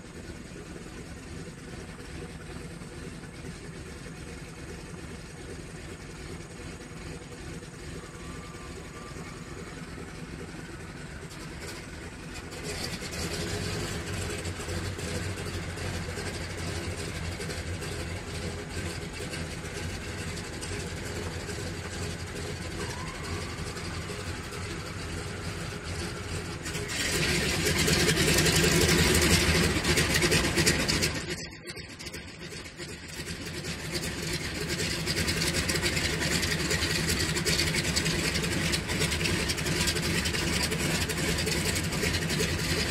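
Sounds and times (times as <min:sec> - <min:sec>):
radial aircraft engines running: 0:00.0 - 0:42.9.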